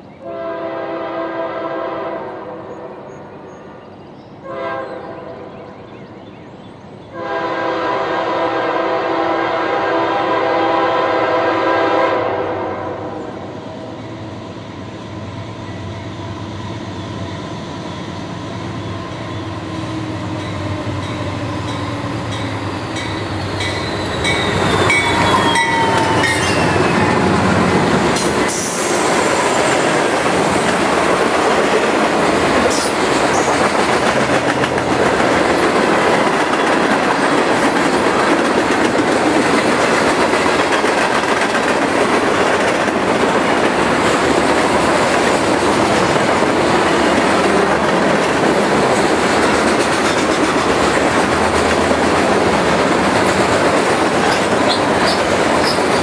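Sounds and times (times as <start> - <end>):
diesel locomotives passing: 0.0 - 56.0
train wheels on rails: 7.1 - 56.0.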